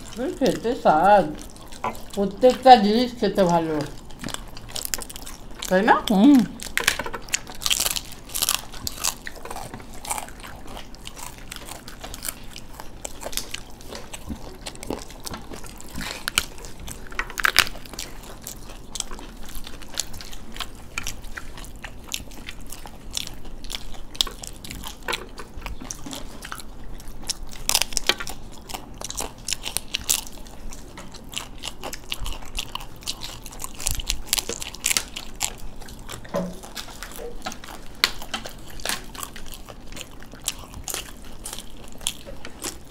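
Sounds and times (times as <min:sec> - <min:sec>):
close-up chewing: 0:00.0 - 0:42.9
crisp fried shells crunching: 0:00.0 - 0:42.9.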